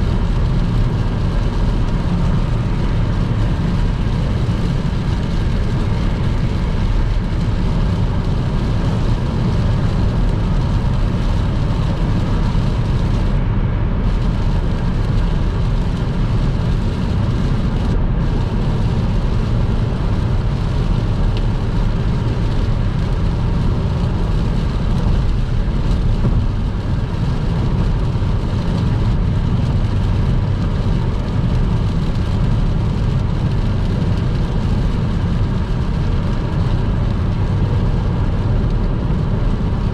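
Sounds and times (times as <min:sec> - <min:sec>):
car tyres on wet road: 0:00.0 - 0:39.9.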